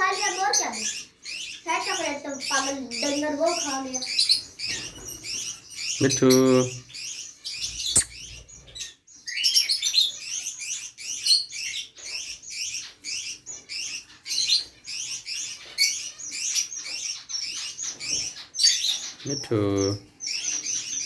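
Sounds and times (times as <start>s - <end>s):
parrot chirping: 0.0s - 19.6s.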